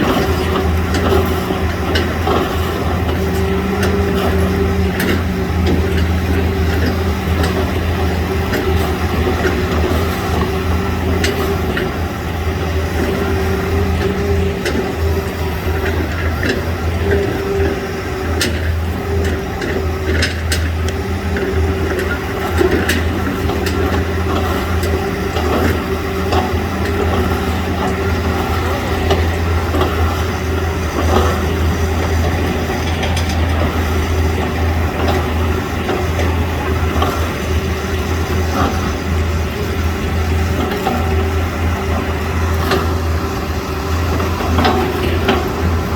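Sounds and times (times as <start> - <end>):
excavator diesel engine drone: 0.0 - 45.9.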